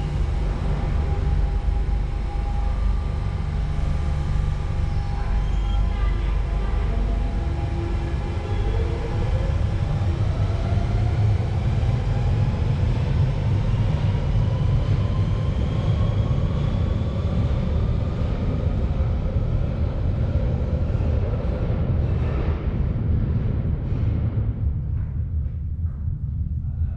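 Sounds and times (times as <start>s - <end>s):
heavy train rumble: 0.0s - 26.9s.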